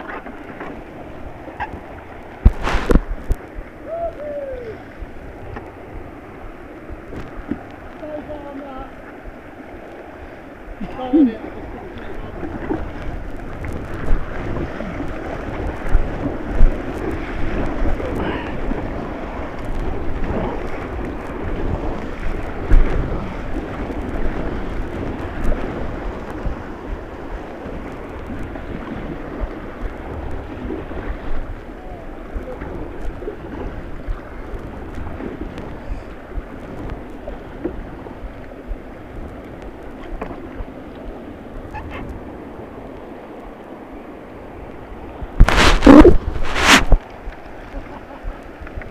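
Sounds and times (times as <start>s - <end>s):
rushing white water: 0.0s - 48.9s
wind buffeting microphone: 0.0s - 48.9s.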